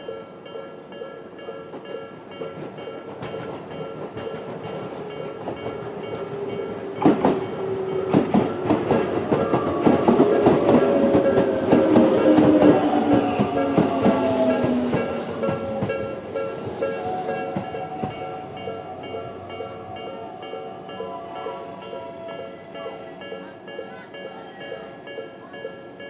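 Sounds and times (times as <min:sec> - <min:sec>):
electric train rail noise: 0:00.0 - 0:26.0.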